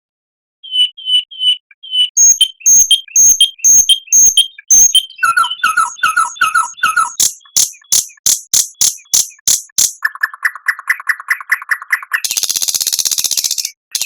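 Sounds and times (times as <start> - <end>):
songbird whistled notes: 0.6 - 14.0.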